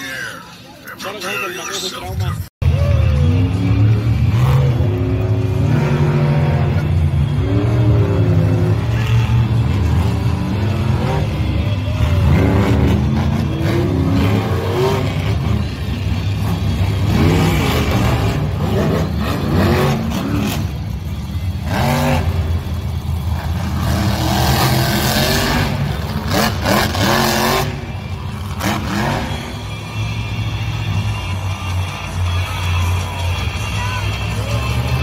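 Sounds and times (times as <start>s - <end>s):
monster truck engines revving: 0.0s - 35.0s.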